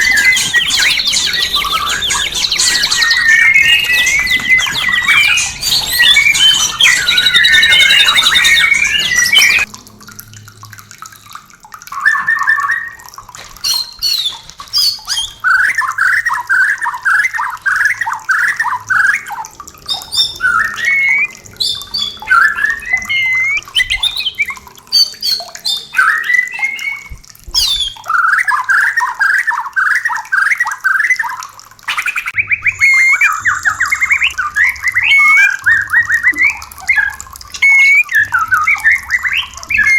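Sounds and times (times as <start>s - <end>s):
bird song: 0.0s - 9.7s, 11.9s - 39.9s.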